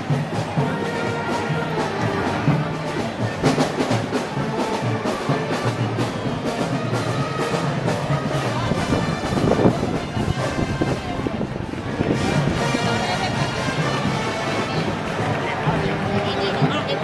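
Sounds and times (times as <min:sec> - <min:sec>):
brass band with drums: 0:00.0 - 0:17.0.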